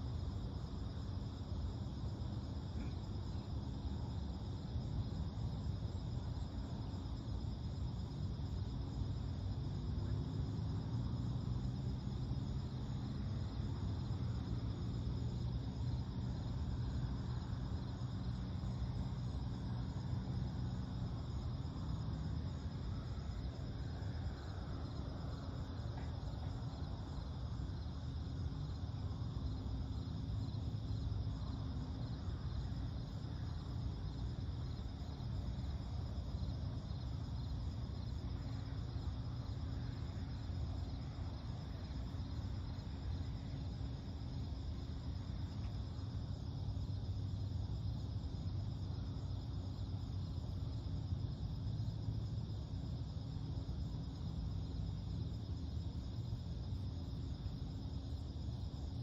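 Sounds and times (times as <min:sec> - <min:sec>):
crickets trilling: 0:00.0 - 0:59.0
low steady rumble: 0:00.0 - 0:59.0.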